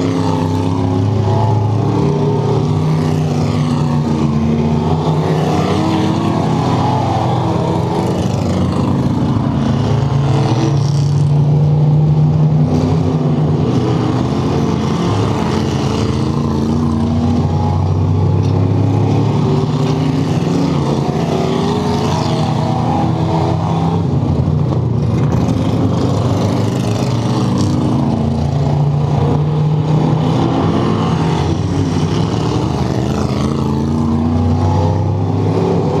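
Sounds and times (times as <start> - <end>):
race car engine running hard: 0.0 - 36.0.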